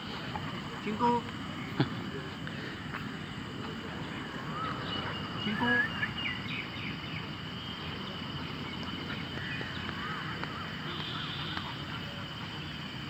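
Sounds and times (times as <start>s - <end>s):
faint chirping calls: 0.0s - 13.0s
outdoor noise bed: 0.0s - 13.0s.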